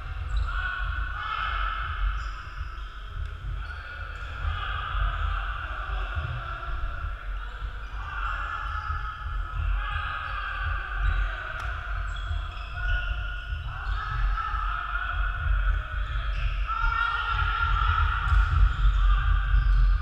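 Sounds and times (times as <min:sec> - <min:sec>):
distant voices and calls: 0:00.0 - 0:20.0
low rumble of sports hall: 0:00.0 - 0:20.0.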